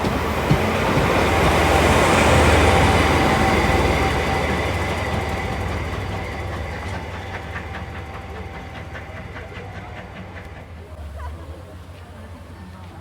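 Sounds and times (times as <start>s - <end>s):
train wheel clicks: 0.0s - 10.8s
train wheel squeal: 0.0s - 11.0s.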